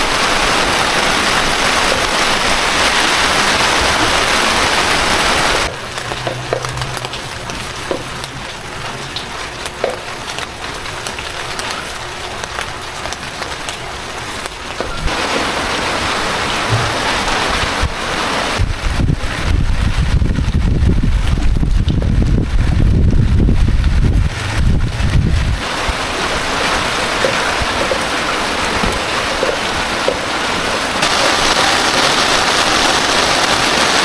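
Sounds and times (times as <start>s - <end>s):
heavy rain hissing: 0.0s - 34.0s
light rain patter with drips: 0.0s - 34.0s.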